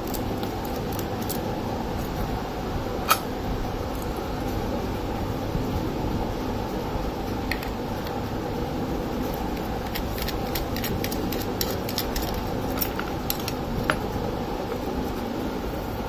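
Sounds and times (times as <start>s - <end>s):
fan hum: 0.0s - 16.0s.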